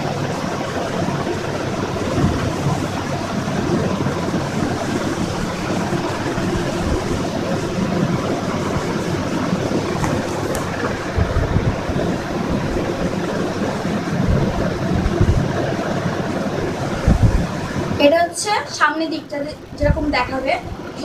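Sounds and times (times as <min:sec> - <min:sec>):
steady rumbling noise: 0:00.0 - 0:21.0.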